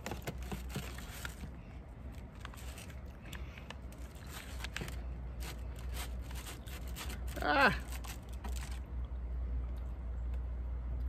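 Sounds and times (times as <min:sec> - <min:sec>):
hands handling packaging: 0:00.0 - 0:08.9
low steady rumble: 0:00.0 - 0:11.0.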